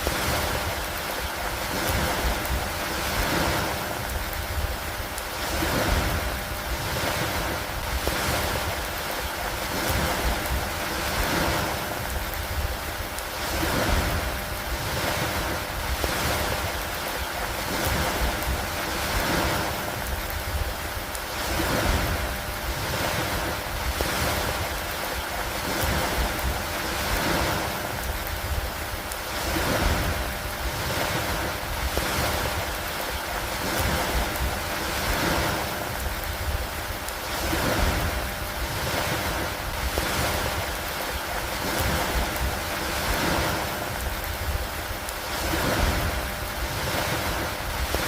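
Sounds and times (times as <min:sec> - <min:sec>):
rain on wooden planks: 0:00.0 - 0:48.0.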